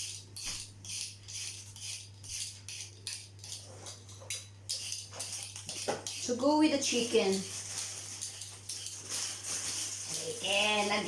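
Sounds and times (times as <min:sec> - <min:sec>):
potato peeler scraping: 0:00.0 - 0:11.0.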